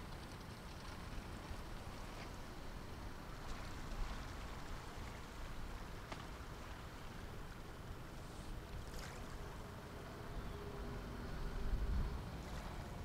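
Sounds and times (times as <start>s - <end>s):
distant ship machinery rumble: 0.0s - 13.0s.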